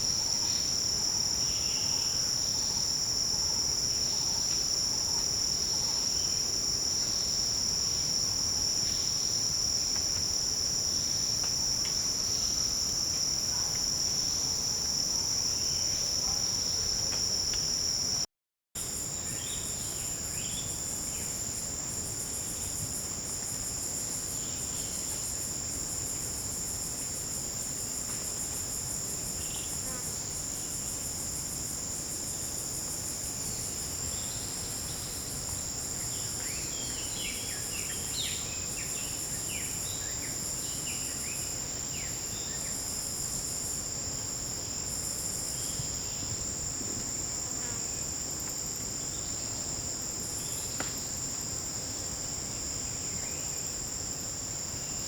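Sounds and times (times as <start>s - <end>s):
insects droning high-pitched: 0.0s - 55.0s.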